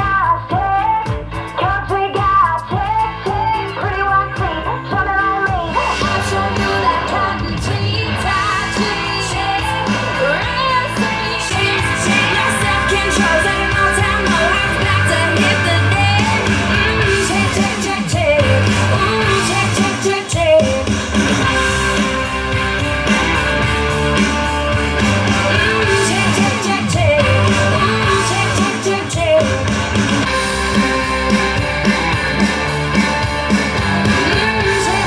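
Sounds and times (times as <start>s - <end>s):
bass: 0.0s - 35.0s
guitar: 0.0s - 35.0s
person singing: 0.0s - 35.0s.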